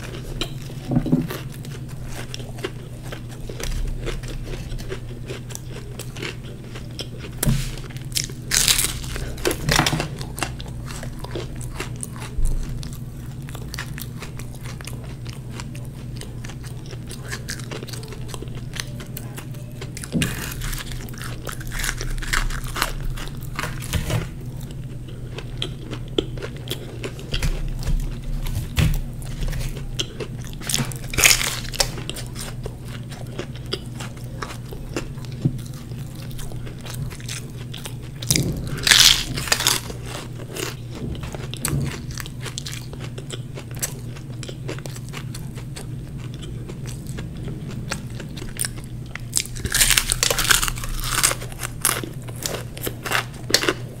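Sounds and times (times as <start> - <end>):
crunchy pastry chewing: 0.0 - 54.0.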